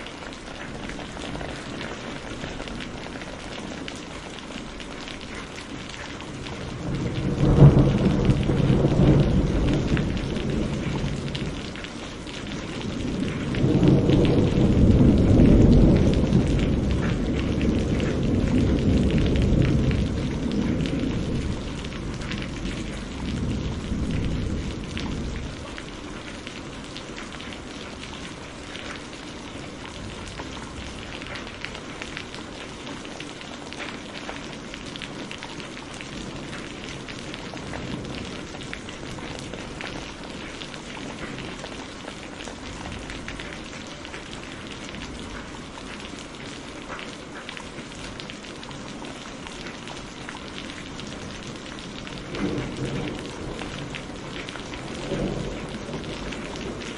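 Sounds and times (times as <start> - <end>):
thunder rumbling: 0.0 - 33.2, 34.2 - 46.4, 49.0 - 56.9
heavy rain: 0.0 - 56.9.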